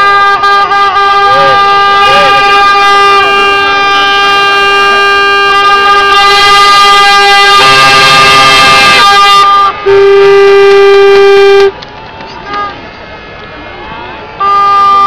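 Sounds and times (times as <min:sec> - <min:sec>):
boat horns blasting: 0:00.0 - 0:11.8, 0:14.4 - 0:15.0.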